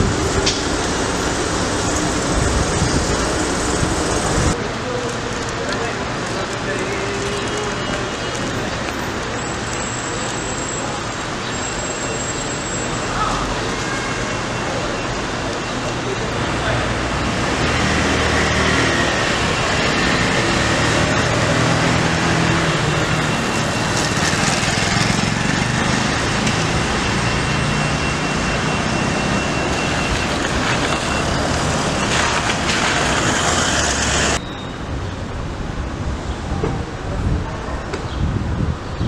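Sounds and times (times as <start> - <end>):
traffic hiss: 0.0 - 34.4.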